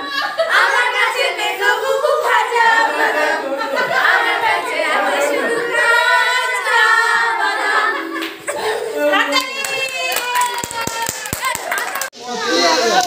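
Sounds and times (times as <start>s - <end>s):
women and girls singing unaccompanied: 0.0s - 11.8s.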